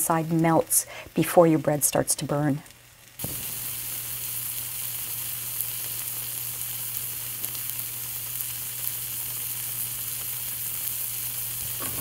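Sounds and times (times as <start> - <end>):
sandwich sizzling in a pan: 0.0 - 12.0.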